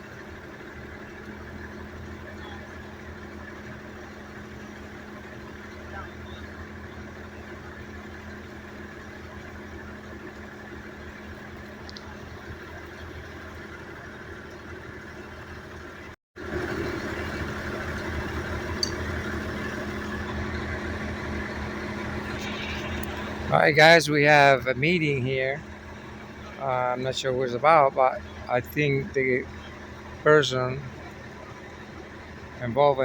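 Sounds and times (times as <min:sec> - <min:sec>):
vehicle engine idling: 0:00.0 - 0:33.0.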